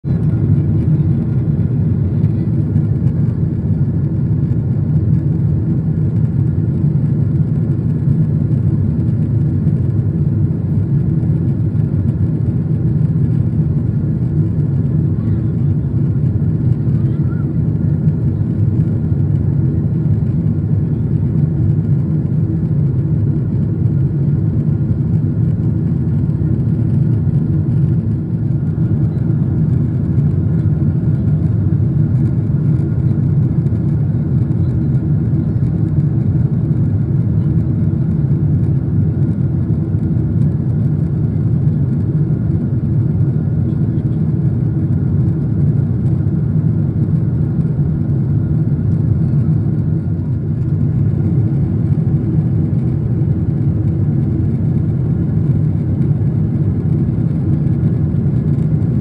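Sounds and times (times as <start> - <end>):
jet airliner cabin noise: 0.0 - 59.0.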